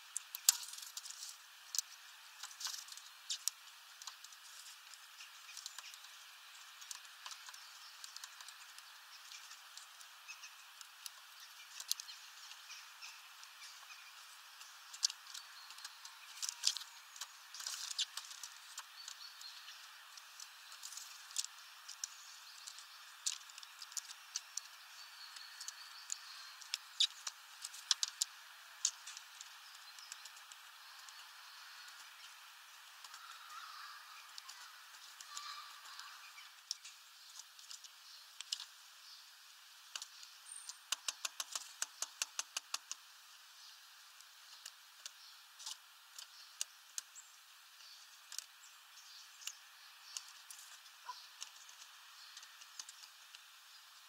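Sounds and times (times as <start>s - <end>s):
birds pecking seeds: 0.0s - 54.0s
faint steady hiss: 0.0s - 54.0s.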